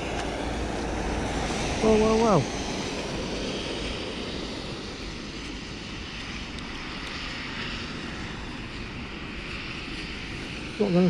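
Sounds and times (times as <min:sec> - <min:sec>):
steady rumbling noise: 0:00.0 - 0:11.0.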